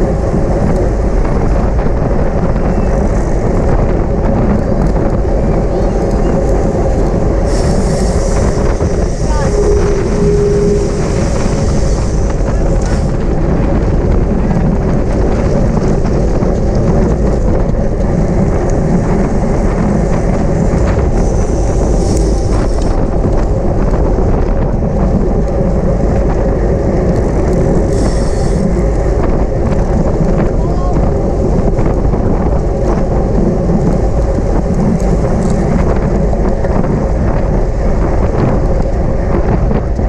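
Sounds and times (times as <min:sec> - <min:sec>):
wind and road rush: 0:00.0 - 0:40.0.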